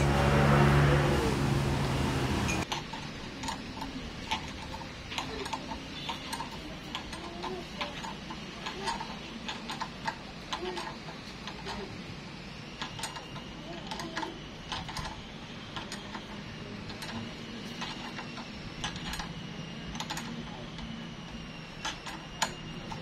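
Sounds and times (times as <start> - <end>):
low machine hum: 0.0 - 23.0
wrench ticking and clinking: 2.5 - 11.9, 12.8 - 20.9, 21.7 - 23.0.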